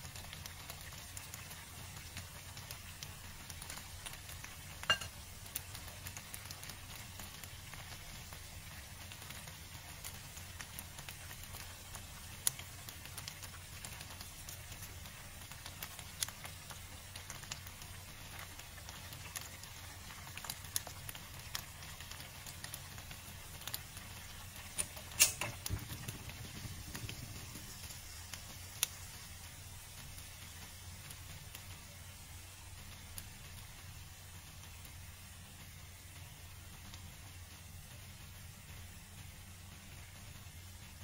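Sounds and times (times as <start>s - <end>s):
sauce simmering in a frying pan: 0.0s - 41.0s
small pops and crackles: 0.0s - 41.0s.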